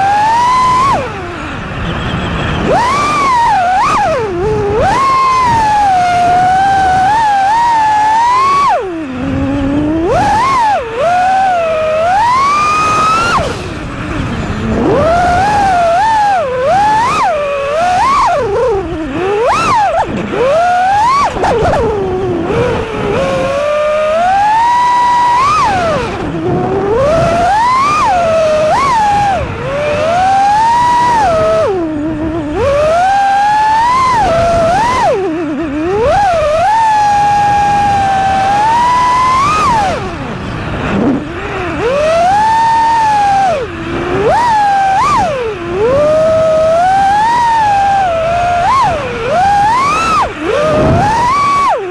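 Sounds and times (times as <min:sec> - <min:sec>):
drone motors whining: 0:00.0 - 0:51.9.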